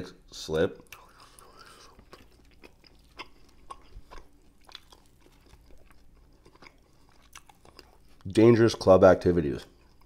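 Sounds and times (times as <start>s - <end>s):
wet chewing and smacking: 0.8s - 8.4s, 9.5s - 10.0s.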